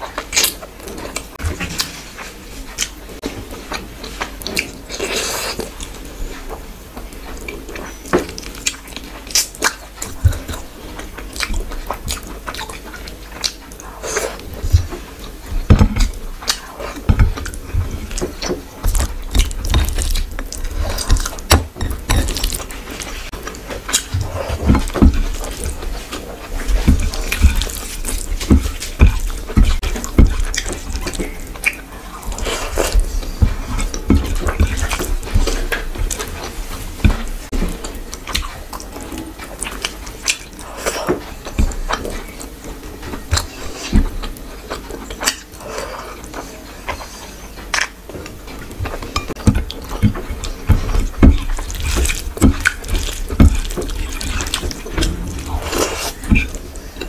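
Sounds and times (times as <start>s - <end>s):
wet chewing: 0.1s - 57.0s.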